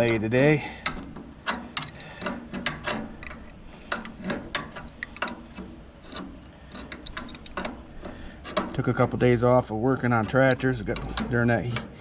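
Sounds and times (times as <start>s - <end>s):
hand tools tapping metal parts: 0.0s - 12.0s.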